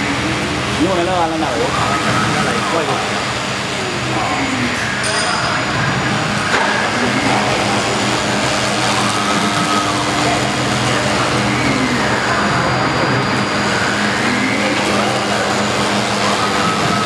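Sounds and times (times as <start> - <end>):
router motor whine: 0.0 - 17.0.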